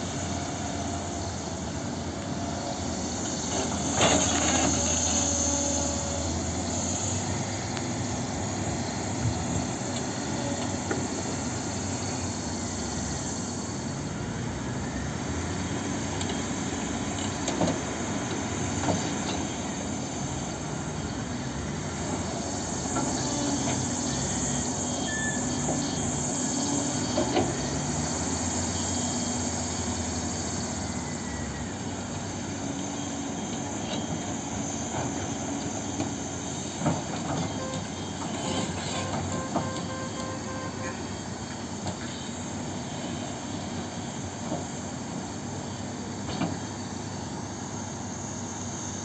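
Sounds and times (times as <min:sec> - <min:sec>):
excavator engine and hydraulics: 0:00.0 - 0:49.0.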